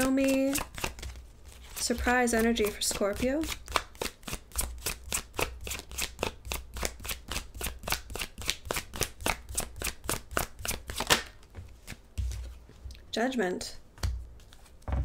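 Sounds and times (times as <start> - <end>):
cards being shuffled: 0.0 - 12.7.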